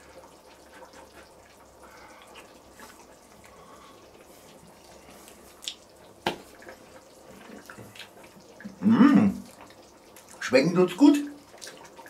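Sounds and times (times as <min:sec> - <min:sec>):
stew bubbling and simmering: 0:00.0 - 0:12.0.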